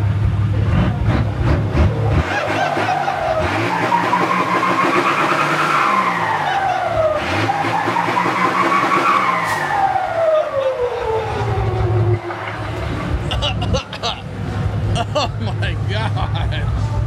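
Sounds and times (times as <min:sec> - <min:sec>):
diesel truck engine revving: 0:00.0 - 0:17.0.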